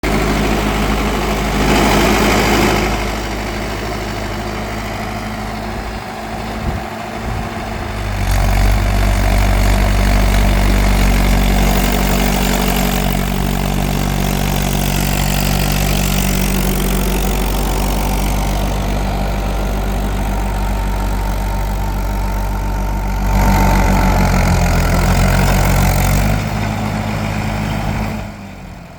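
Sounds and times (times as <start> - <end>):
tractor diesel engine running: 0.0 - 28.9.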